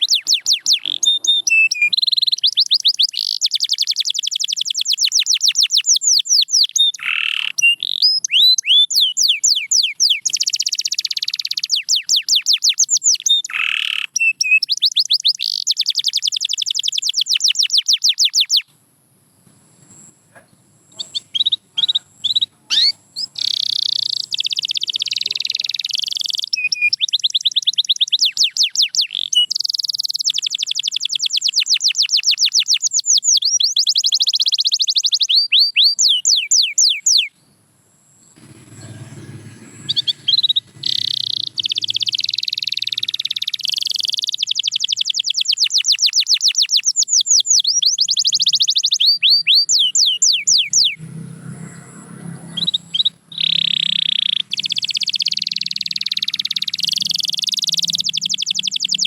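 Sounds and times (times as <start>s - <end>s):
canary singing trills: 0.0s - 18.7s, 19.8s - 59.0s.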